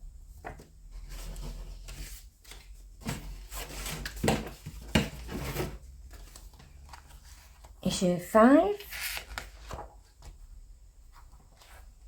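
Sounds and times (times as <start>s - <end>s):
paper rustling: 0.4s - 8.0s, 8.7s - 12.0s.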